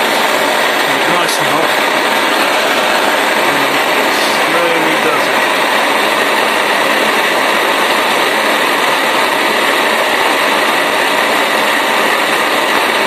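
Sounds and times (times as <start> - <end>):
blowtorch flame hissing: 0.0 - 13.0.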